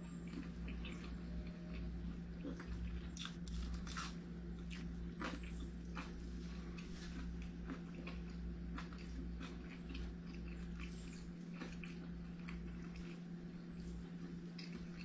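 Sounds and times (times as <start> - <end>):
steady low hum: 0.0 - 15.0
person chewing food: 0.2 - 15.0.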